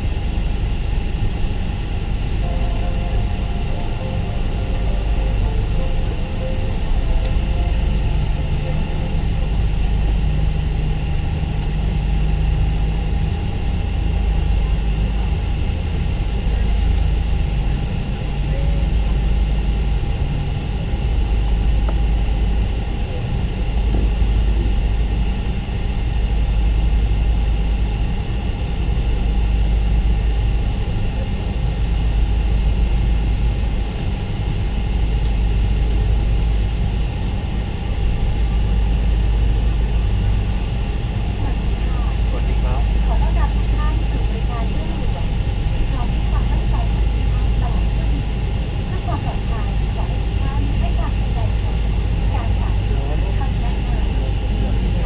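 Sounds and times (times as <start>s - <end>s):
airliner cabin low rumble: 0.0s - 55.0s
engine whine: 0.0s - 55.0s.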